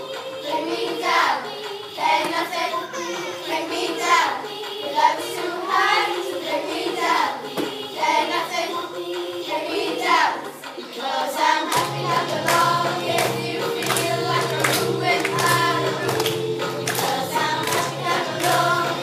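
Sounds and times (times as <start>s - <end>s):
backing track music: 0.0s - 19.0s
children singing: 0.0s - 19.0s.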